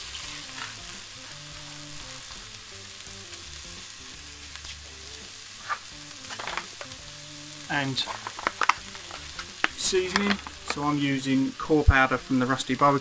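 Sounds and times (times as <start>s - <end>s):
bacon and onion sizzling: 0.0s - 13.0s.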